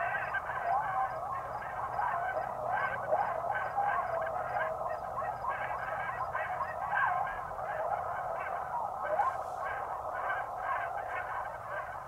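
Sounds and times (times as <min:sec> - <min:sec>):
chorus of animals calling: 0:00.0 - 0:12.0.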